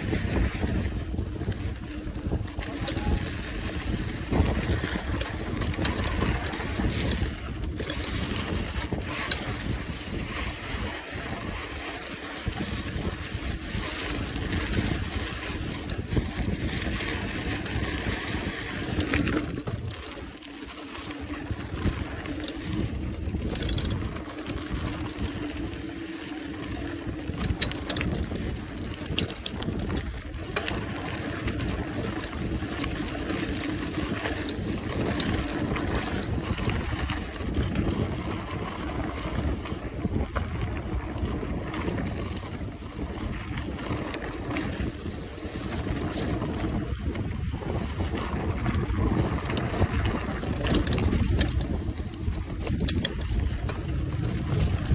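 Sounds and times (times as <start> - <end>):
bike clicks and rattles: 0.0 - 54.9
bike tyres rolling on road: 0.0 - 54.9
wind buffeting microphone: 0.0 - 54.9.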